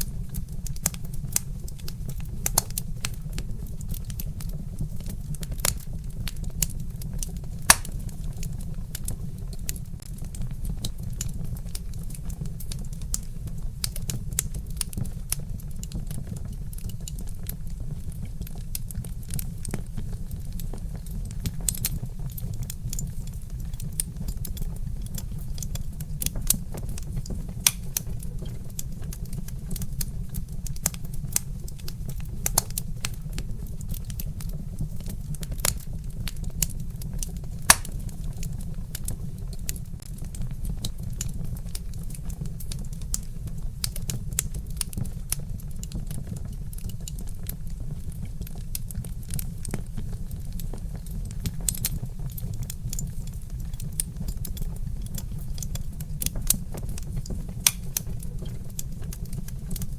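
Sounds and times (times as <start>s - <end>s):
log fire crackling and popping: 0.0s - 59.9s.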